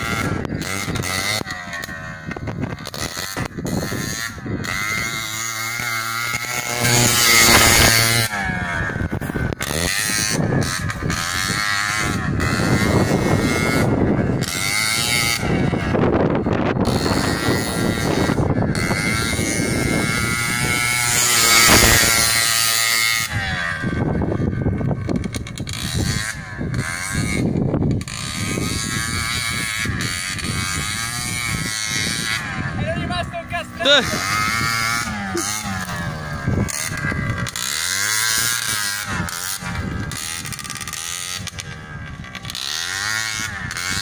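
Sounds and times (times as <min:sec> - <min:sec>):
motorized bicycle engine buzzing: 0:00.0 - 0:44.0.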